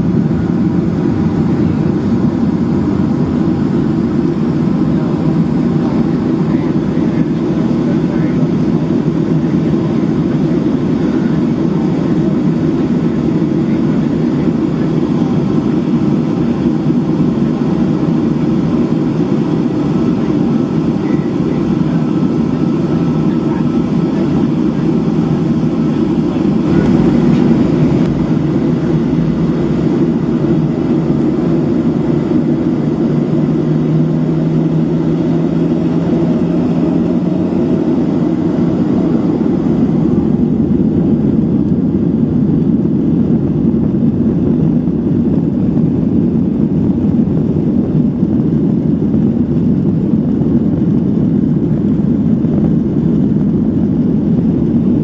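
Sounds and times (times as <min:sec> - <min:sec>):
jet cabin engine roar: 0:00.0 - 0:55.0.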